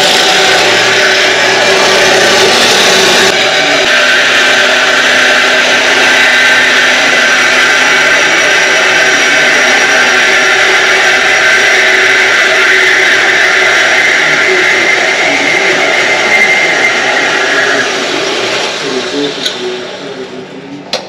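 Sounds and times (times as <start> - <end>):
band saw cutting metal: 0.0 - 21.0.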